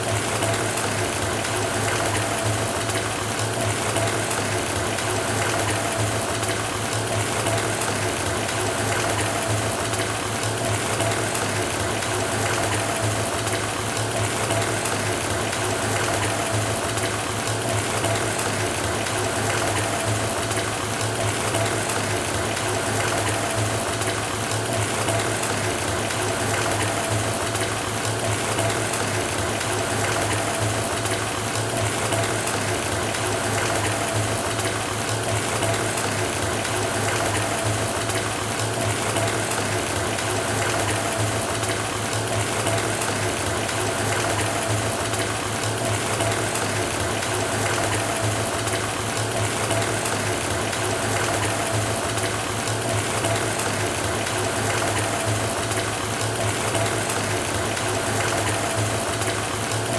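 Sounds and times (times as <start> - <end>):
faucet water filling bathtub: 0.0 - 59.9.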